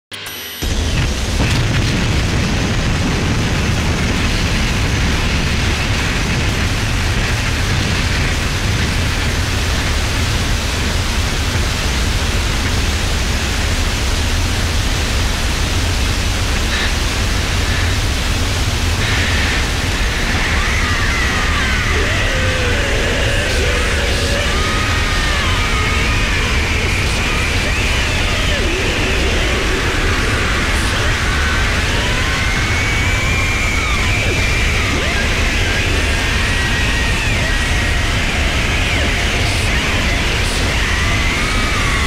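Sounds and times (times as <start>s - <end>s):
loud rushing noise: 0.3s - 42.0s
low rumble: 0.6s - 42.0s.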